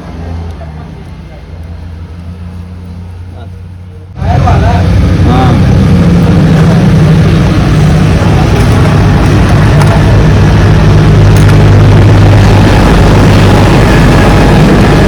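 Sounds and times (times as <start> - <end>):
motor running low hum: 1.2 - 15.0.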